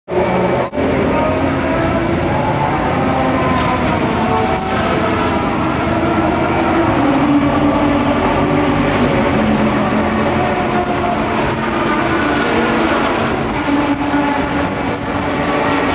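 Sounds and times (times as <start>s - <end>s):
race car engines: 0.1s - 15.9s.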